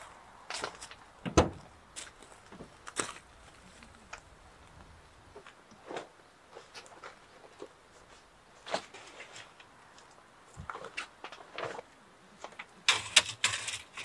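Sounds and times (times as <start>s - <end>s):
rustling: 0.5s - 14.0s.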